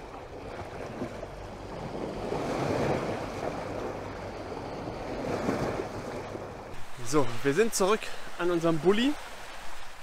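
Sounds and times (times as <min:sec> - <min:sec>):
waves lapping against rocks: 0:00.0 - 0:10.0.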